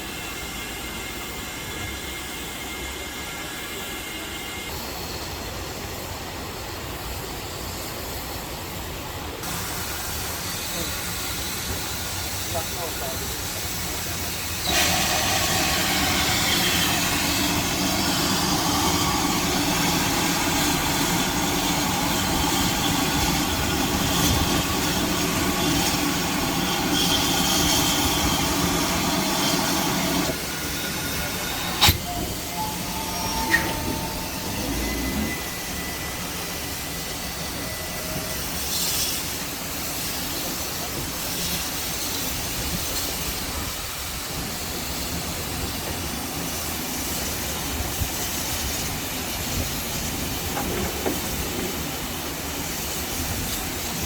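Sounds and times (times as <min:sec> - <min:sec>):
train wheels squealing on rails: 0:00.0 - 0:08.7, 0:09.4 - 0:54.0.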